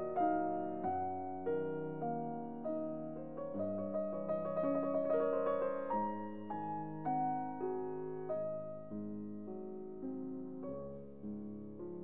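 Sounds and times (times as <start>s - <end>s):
piano notes: 0.0s - 12.0s.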